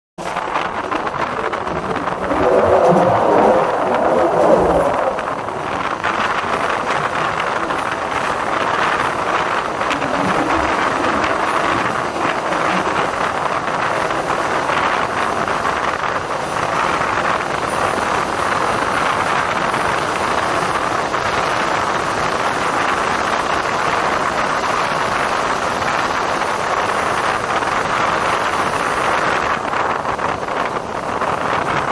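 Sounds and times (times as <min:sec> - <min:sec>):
train rushing through tunnel: 0:00.2 - 0:31.9.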